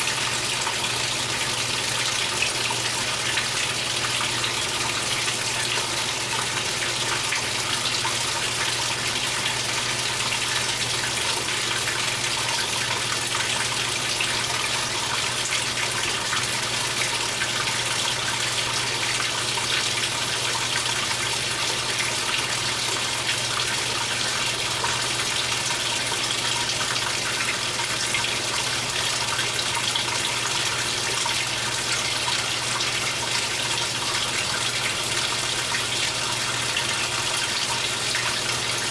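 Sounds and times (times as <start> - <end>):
water gushing into washing machine: 0.0 - 38.9.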